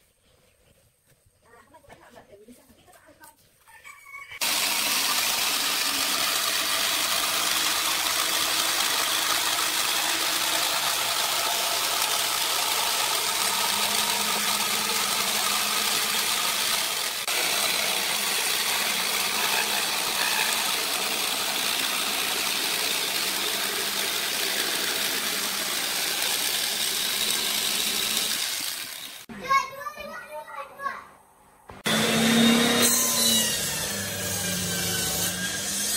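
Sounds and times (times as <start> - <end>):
electric jigsaw cutting wood: 4.4 - 29.3, 31.8 - 35.9.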